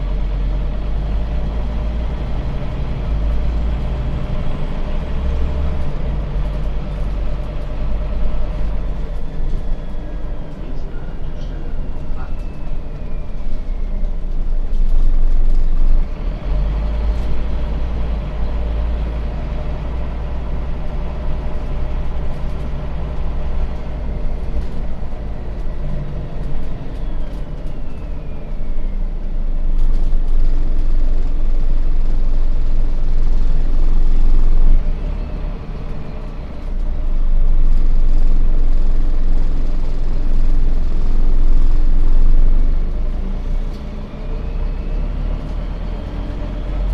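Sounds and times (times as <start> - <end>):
bus diesel engine drone: 0.0 - 46.9.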